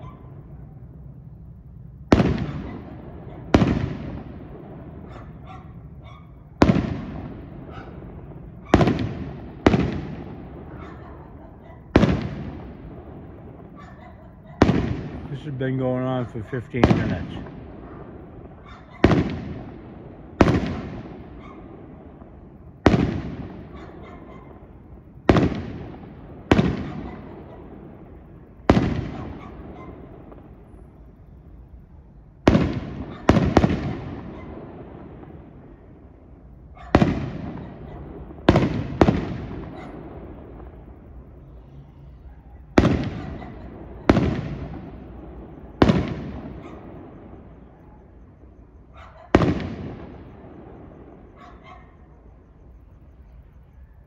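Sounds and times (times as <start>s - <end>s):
firework bangs with rolling echo: 0.0s - 52.7s.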